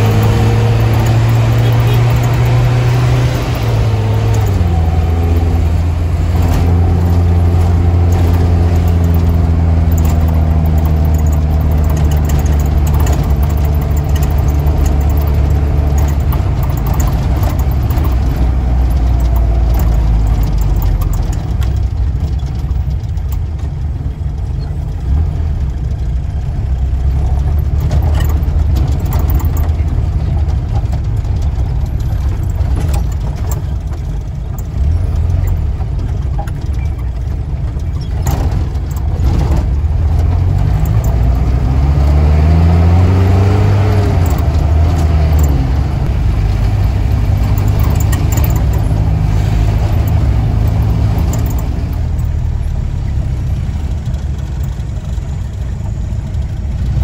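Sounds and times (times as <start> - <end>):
minibus engine from inside: 0.0 - 57.0
road noise: 0.0 - 57.0.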